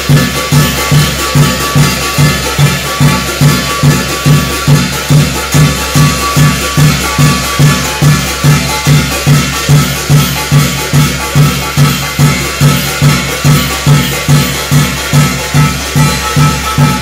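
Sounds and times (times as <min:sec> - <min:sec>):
loud drum beat: 0:00.0 - 0:17.0
steady ringing tone: 0:00.0 - 0:17.0.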